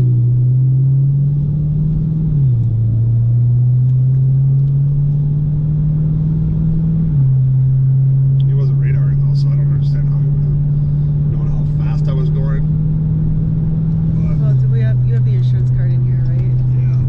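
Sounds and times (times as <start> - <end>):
car engine droning inside car: 0.0 - 17.0.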